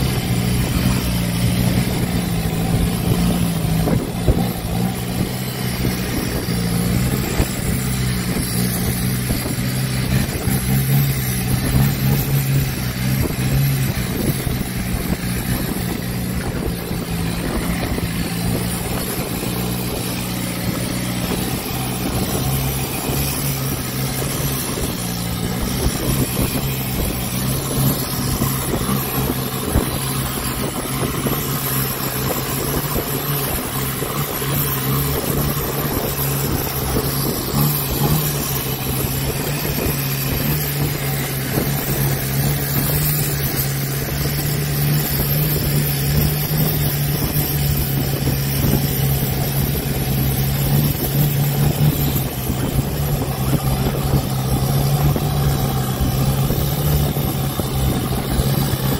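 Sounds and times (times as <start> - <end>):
boat engine droning: 0.0 - 58.9
water rushing along hull: 0.0 - 58.9.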